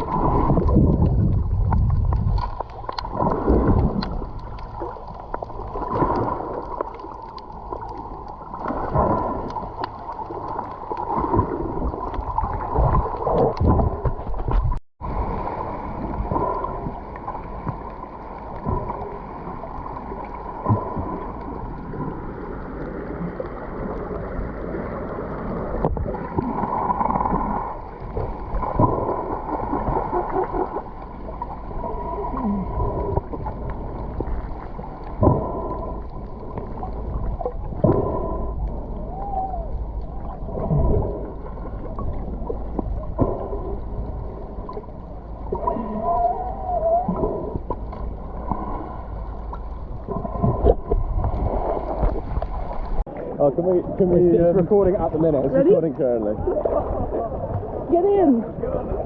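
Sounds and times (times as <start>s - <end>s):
water sloshing and gurgling: 0.0s - 59.0s.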